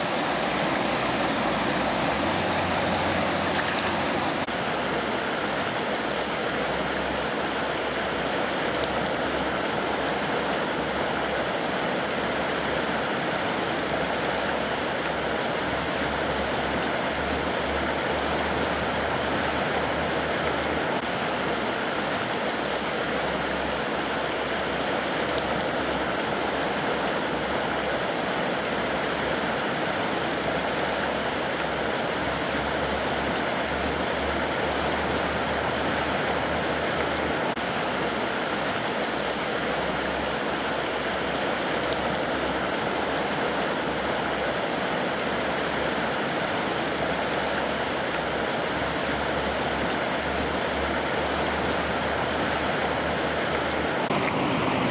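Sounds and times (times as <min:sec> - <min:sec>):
river rushing over rocks: 0:00.0 - 0:54.9.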